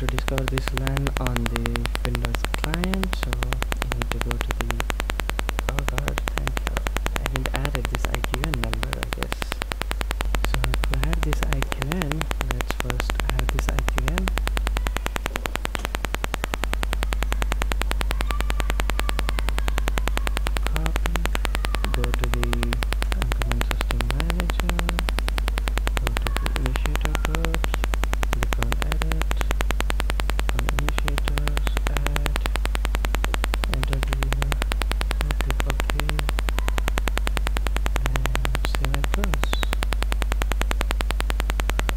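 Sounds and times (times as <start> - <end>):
electrical hum and buzz: 0.0 - 41.9.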